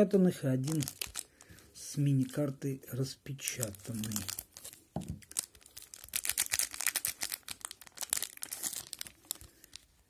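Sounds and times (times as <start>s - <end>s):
plastic wrapper crinkling and tearing: 0.6s - 2.6s, 3.4s - 10.0s.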